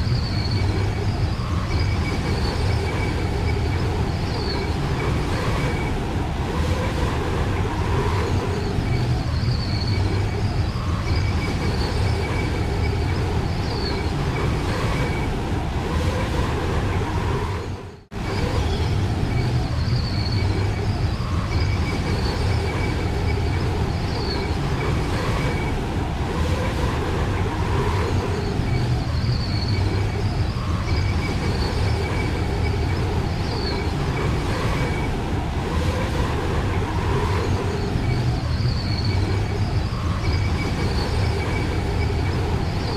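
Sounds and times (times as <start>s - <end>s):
blizzard wind roaring: 0.0s - 42.9s.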